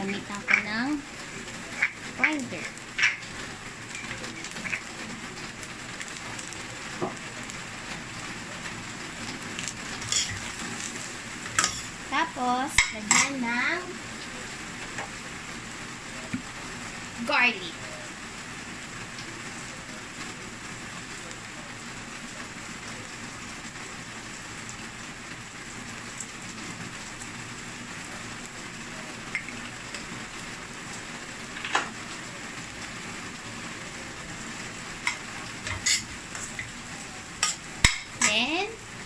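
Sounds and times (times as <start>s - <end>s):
rice sizzling in frying pan: 0.0s - 39.0s.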